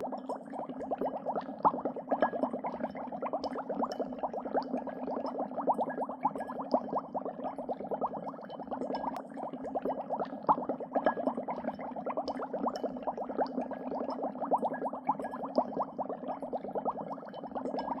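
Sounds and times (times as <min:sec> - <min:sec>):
dry ice bubbles popping in water: 0:00.0 - 0:18.0.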